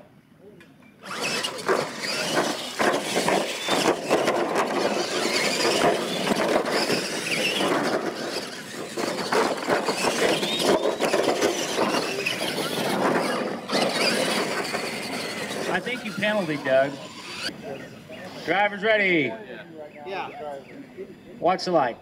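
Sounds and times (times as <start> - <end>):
electric motors whining: 1.0 - 18.8
tyres churning dirt: 1.0 - 19.3.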